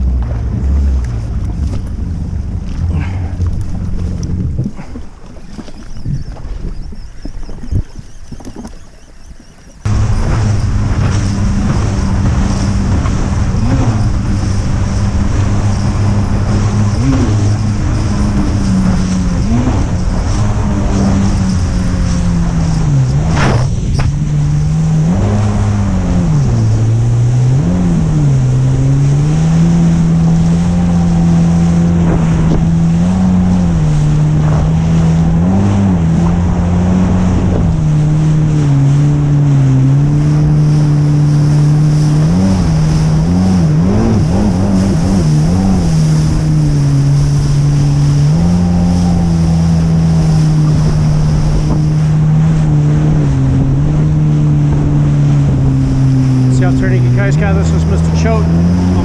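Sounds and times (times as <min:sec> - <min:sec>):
jet ski engine running: 0:00.0 - 0:59.0
rushing water: 0:00.0 - 0:59.0
wind on microphone: 0:00.0 - 0:59.0.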